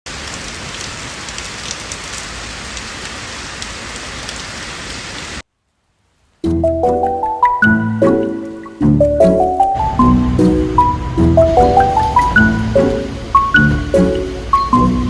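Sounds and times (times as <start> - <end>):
rain-like hiss: 0.1 - 6.5, 8.1 - 15.0.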